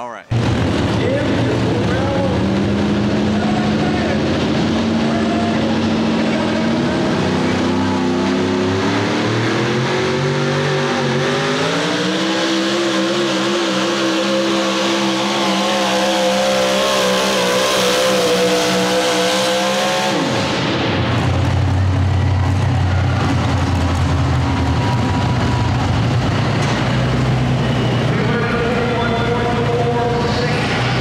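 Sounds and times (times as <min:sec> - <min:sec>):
truck engine at full power: 0:00.0 - 0:31.0.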